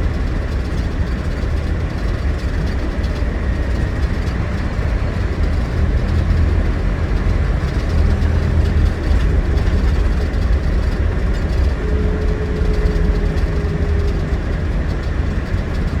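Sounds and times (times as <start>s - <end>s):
diesel engine low rumble: 0.0s - 16.0s
faint steady whine: 0.0s - 16.0s
road noise: 0.0s - 16.0s.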